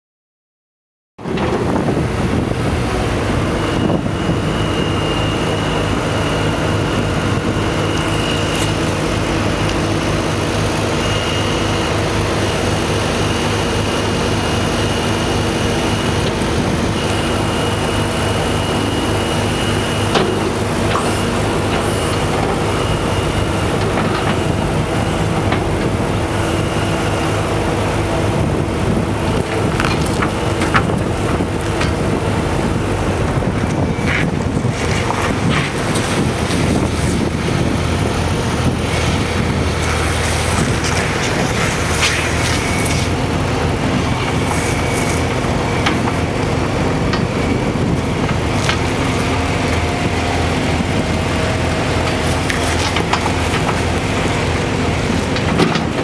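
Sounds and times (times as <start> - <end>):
diesel engine running: 1.2 - 56.0.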